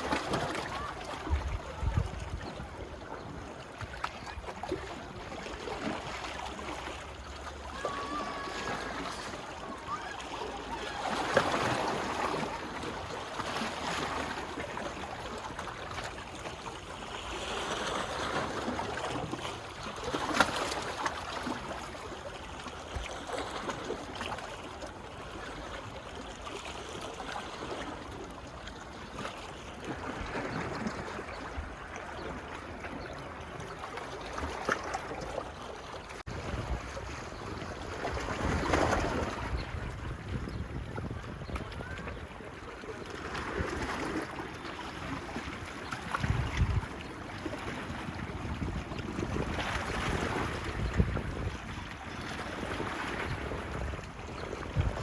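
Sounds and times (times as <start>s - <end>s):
waves lapping on a beach: 0.0s - 55.0s.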